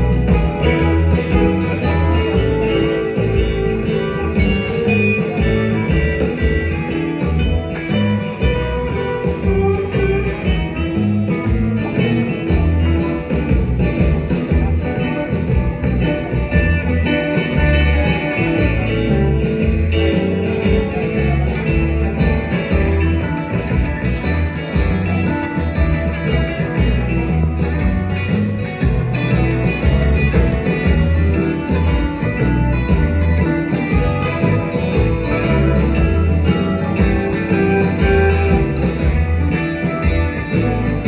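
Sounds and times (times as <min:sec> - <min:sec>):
live blues-rock band playing: 0:00.0 - 0:41.0.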